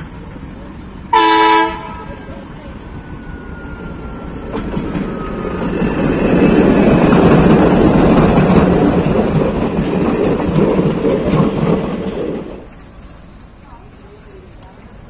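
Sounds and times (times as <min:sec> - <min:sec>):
diesel train passing on rails: 0:00.0 - 0:15.0.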